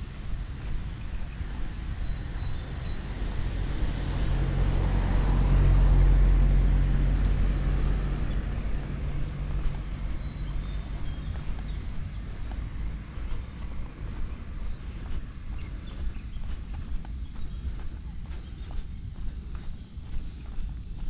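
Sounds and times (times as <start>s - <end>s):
passing engine hum: 0.0s - 21.0s.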